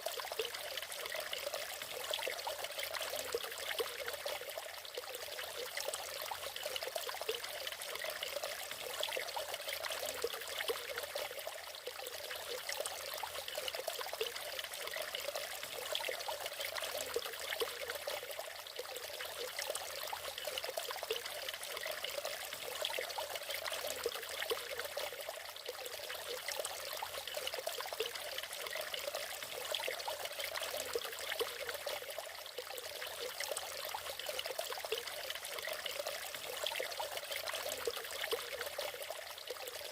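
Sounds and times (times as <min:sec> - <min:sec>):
waterfall splashing and trickling: 0:00.0 - 0:39.9.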